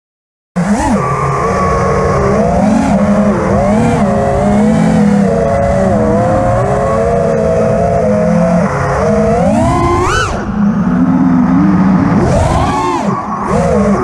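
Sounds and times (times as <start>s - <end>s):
drone motors buzzing whine: 0.6s - 14.0s.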